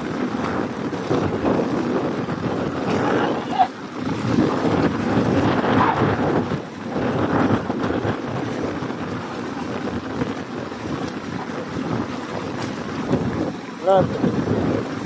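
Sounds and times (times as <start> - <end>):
fish splashing water: 0.0 - 15.0
wind on microphone: 0.0 - 15.0.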